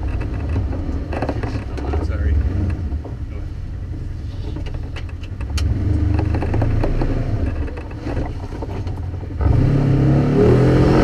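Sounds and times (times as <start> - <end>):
knocks and rattles: 0.0 - 9.6
vehicle engine running: 0.0 - 11.0.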